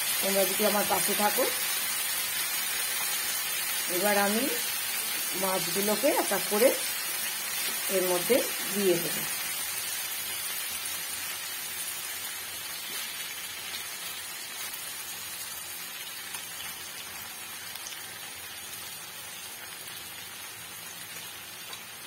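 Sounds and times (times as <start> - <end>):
gravy sizzling in a frying pan: 0.0 - 22.0.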